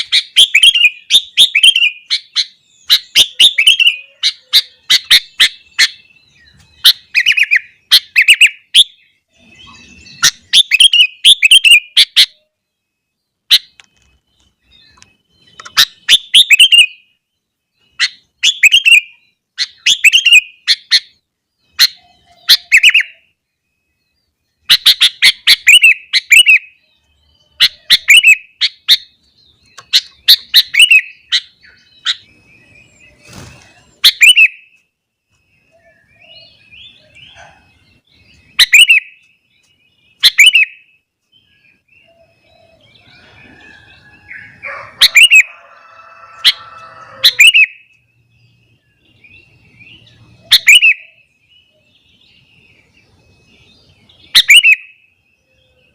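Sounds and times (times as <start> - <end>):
bulbul singing: 0.0 - 55.9.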